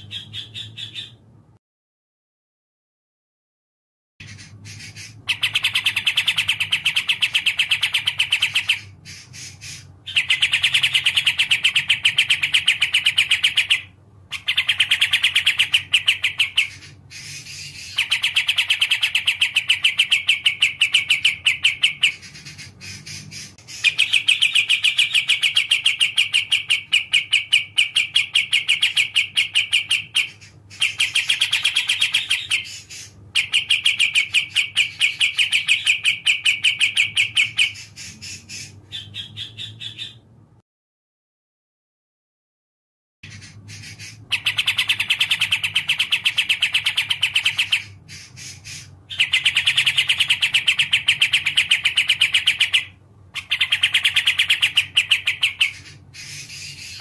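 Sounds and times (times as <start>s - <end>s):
songbird trilling: 0.0s - 1.3s, 4.2s - 40.3s, 43.3s - 57.0s.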